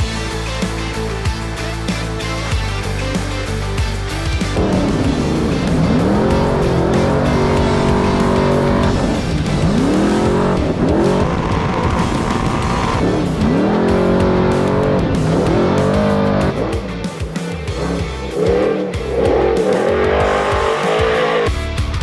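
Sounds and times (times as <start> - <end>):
background music: 0.0 - 22.0
race truck engine revving: 0.0 - 22.0.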